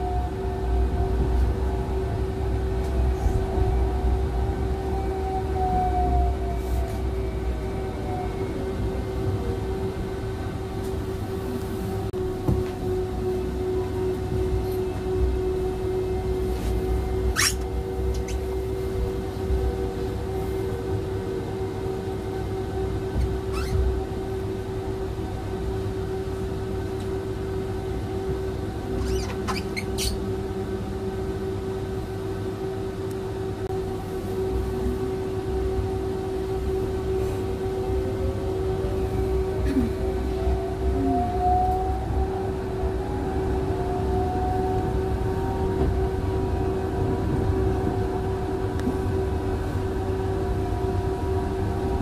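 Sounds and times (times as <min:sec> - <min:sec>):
tram wheels rumbling on rail: 0:00.0 - 0:52.0.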